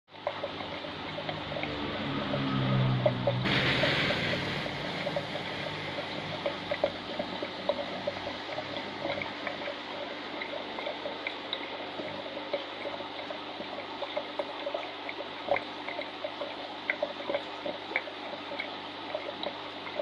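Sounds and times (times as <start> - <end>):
aquarium water trickling: 0.1 - 20.0
rush of water: 0.1 - 20.0
small water plops: 0.1 - 20.0.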